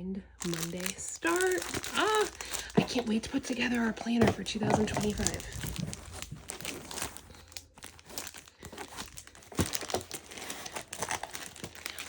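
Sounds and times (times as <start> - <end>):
packaging crinkling and rustling: 0.4 - 12.0.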